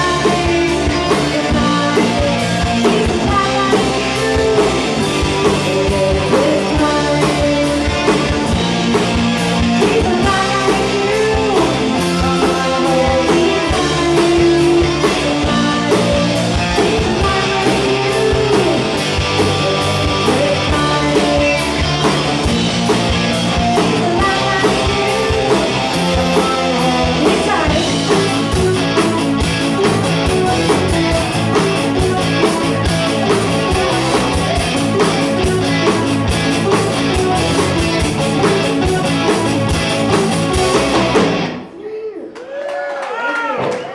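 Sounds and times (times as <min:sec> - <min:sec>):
electric guitar: 0:00.0 - 0:41.8
rock band playing: 0:00.0 - 0:41.8.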